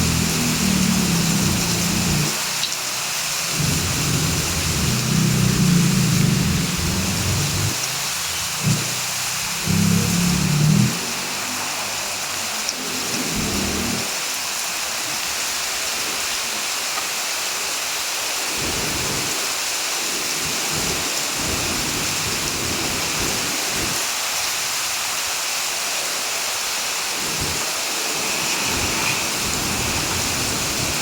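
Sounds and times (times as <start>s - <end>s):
heavy rain hiss: 0.0s - 31.0s.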